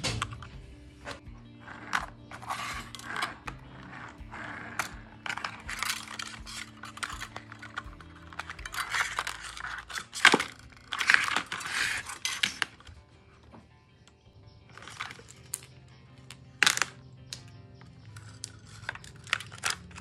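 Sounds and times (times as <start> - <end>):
hard plastic clattering and scraping: 0.0 - 13.8, 14.7 - 20.0.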